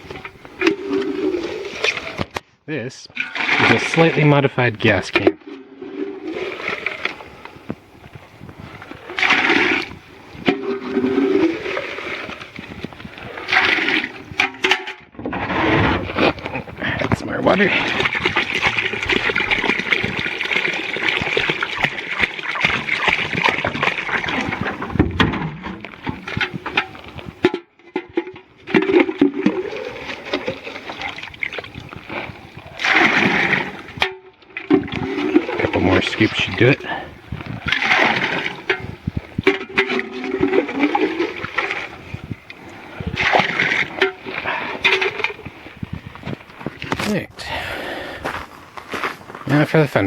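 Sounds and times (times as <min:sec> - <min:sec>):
water pouring into a container: 0:03.2 - 0:14.5, 0:15.6 - 0:27.4, 0:28.7 - 0:47.6.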